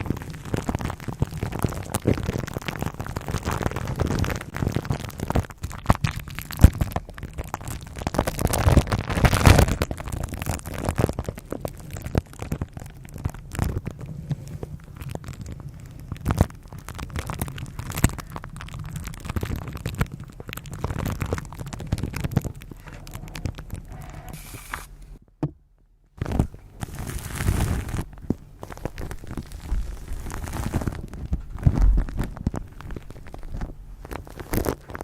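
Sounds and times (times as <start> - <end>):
crackling with small clicks and taps: 0.0 - 25.2, 26.1 - 35.0.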